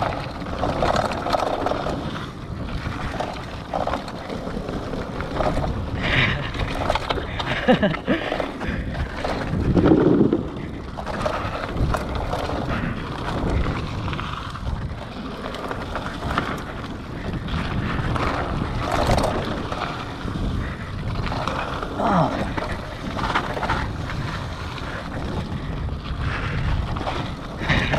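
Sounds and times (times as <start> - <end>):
bike knocks and rattles: 0.0 - 27.9
bike tyres on dirt: 0.0 - 27.9
wind on microphone: 0.0 - 27.9.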